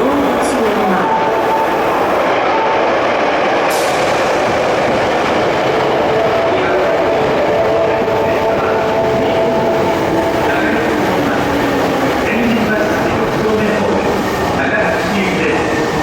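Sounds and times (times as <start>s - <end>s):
faint train whine: 0.0s - 16.0s
subway train running: 0.0s - 16.0s.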